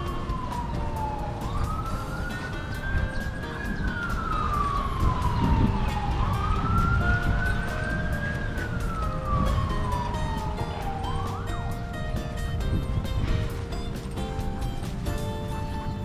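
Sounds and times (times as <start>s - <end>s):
emergency siren wailing: 0.0s - 13.7s.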